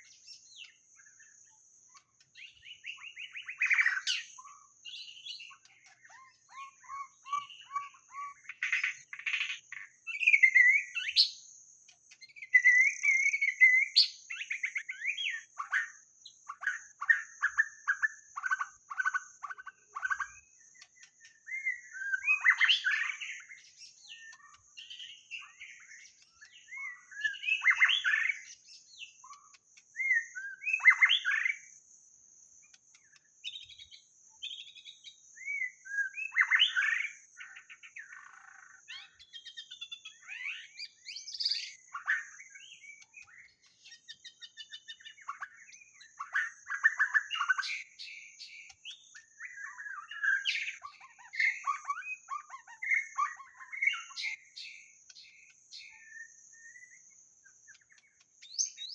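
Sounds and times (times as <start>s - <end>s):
bird singing whistles and chatter: 1.9s - 11.4s, 12.1s - 31.7s, 32.9s - 58.9s.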